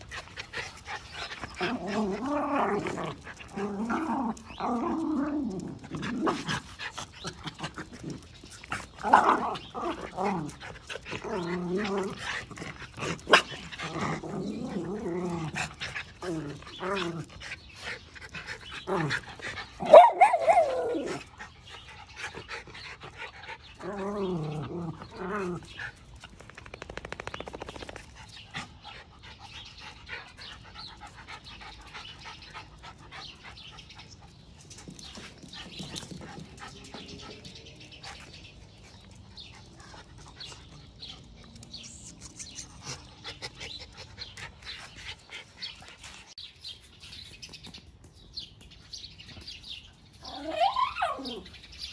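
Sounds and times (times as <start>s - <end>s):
dogs barking and yelping: 0.0s - 46.4s, 49.3s - 51.9s.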